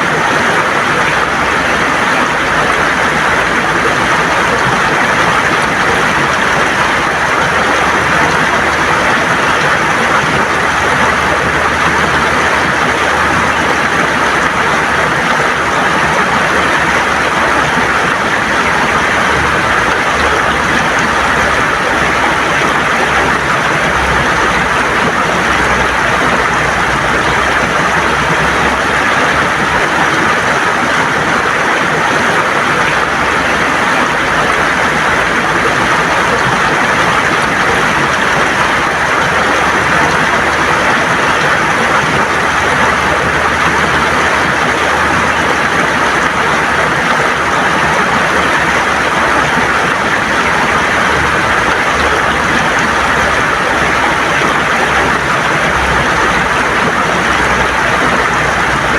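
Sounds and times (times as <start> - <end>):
river water rushing over stones: 0.0 - 58.9.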